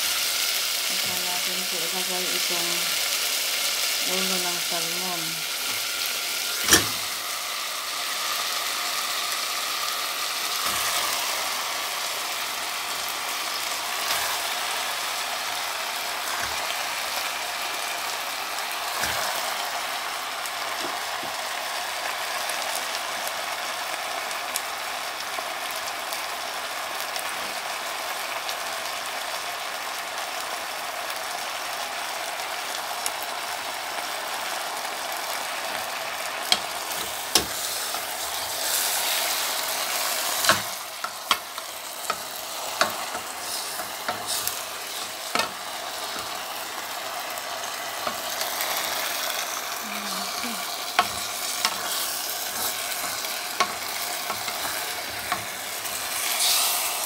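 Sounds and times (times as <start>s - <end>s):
oil sizzling in a pot: 0.0s - 57.0s.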